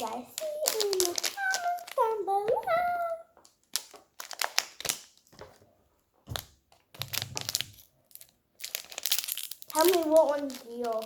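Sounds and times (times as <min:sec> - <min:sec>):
plastic packaging crinkling: 0:00.0 - 0:05.6, 0:06.3 - 0:11.0.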